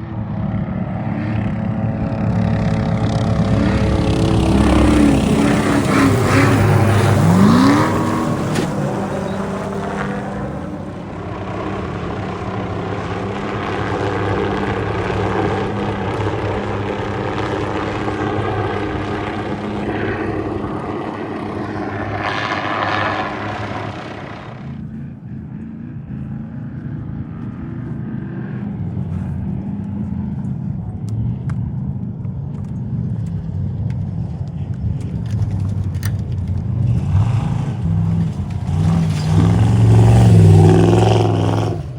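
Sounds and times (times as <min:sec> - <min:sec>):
race vehicle engines roaring: 0:00.0 - 0:41.9.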